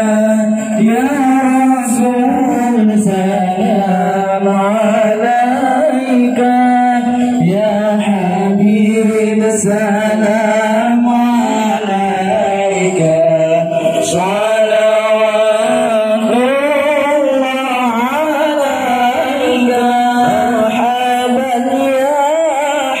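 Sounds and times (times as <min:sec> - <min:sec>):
voices singing devotional chant: 0:00.0 - 0:23.0.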